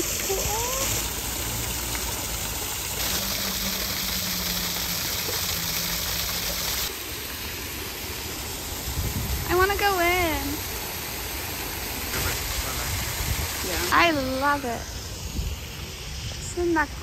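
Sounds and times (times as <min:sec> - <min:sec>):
small waterfall splashing: 0:00.0 - 0:17.0.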